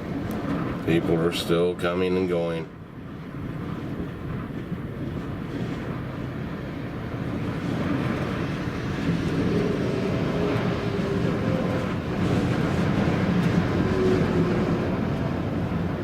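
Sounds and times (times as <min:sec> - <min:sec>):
road noise of passing traffic: 0:00.0 - 0:16.0.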